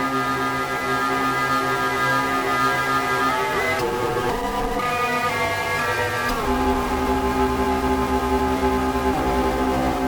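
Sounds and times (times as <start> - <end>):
gritty distorted synthesizer chord: 0.0 - 10.0
heavy low drone: 0.0 - 10.0.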